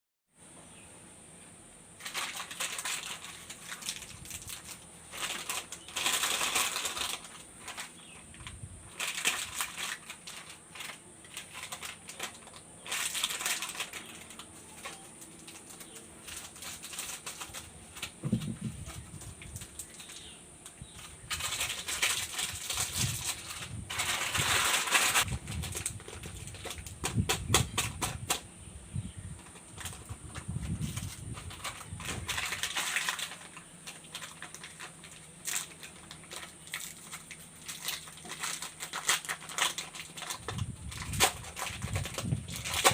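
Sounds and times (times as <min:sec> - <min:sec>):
wrappers crinkling and tearing: 0:02.0 - 0:28.4, 0:29.4 - 0:42.9.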